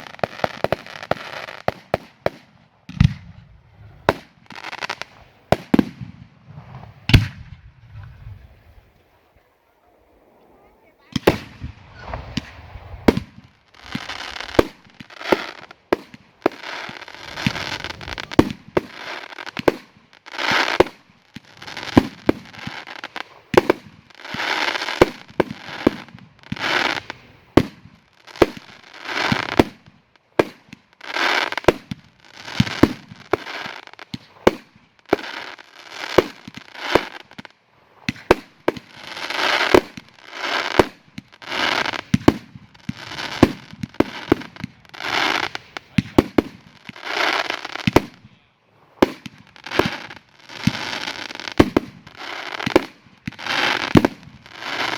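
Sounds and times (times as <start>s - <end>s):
firework shots: 0.0s - 8.0s, 11.1s - 48.3s, 48.9s - 54.9s
firework crackling: 0.0s - 8.1s, 11.1s - 48.2s, 48.8s - 54.9s.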